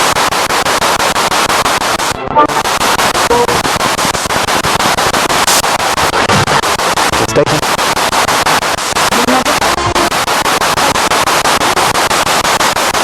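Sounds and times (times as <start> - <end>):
fragments of broadcast sound: 0.0 - 13.0
pulsing radio static: 0.0 - 13.0.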